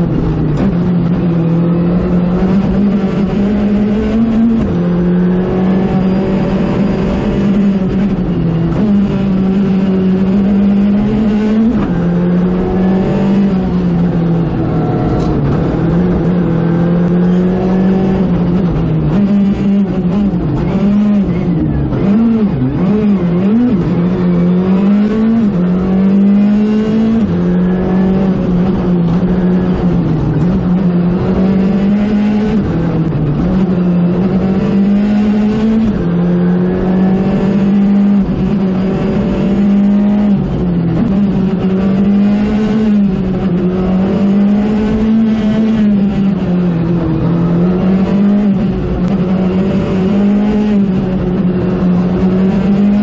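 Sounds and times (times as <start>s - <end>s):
rally car engine revving hard: 0.0s - 53.0s.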